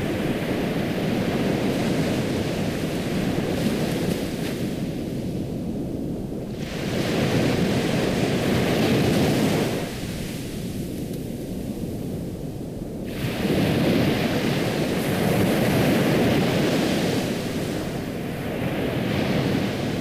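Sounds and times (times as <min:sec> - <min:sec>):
ocean waves washing in: 0:00.0 - 0:11.0, 0:13.0 - 0:20.0.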